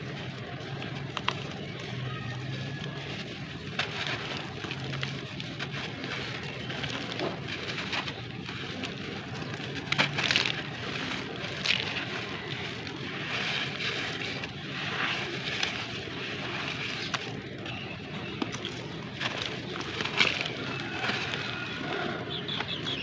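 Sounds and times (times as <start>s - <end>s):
gritty crunching: 0.0s - 23.0s.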